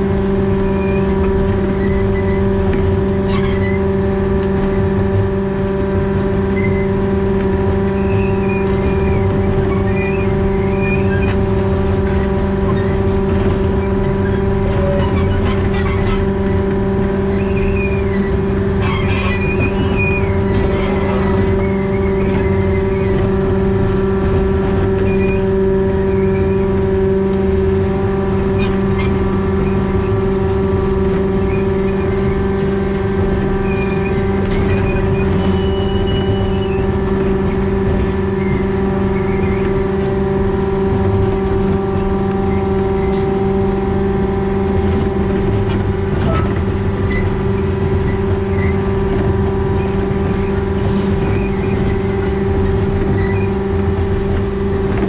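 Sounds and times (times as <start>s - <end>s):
locomotive diesel engine drone: 0.0s - 55.0s
rumbling running noise: 0.0s - 55.0s
faint high squeals: 0.4s - 55.0s.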